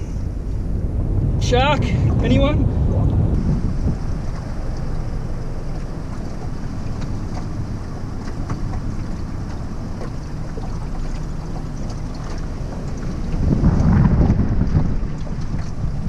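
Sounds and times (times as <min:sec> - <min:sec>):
wind buffeting the microphone: 0:00.0 - 0:16.0.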